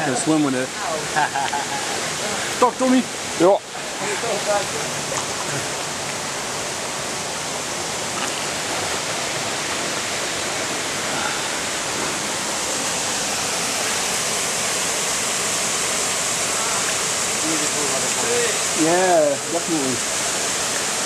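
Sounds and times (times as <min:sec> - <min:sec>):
waterfall pouring into pool: 0:00.0 - 0:21.0.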